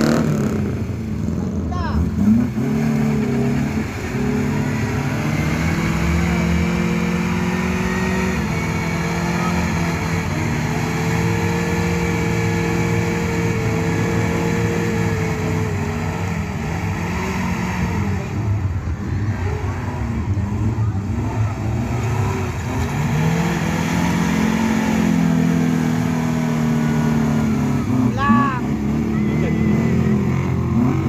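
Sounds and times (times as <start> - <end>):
off-road vehicle engines revving: 0.0 - 31.0.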